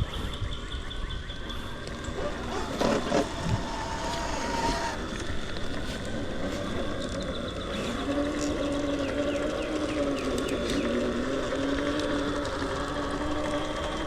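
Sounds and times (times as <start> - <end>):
electric motor and gears whining: 1.2 - 14.0.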